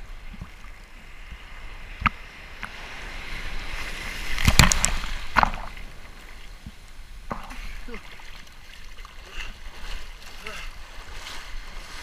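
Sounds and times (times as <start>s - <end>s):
water splashing: 2.0s - 12.0s.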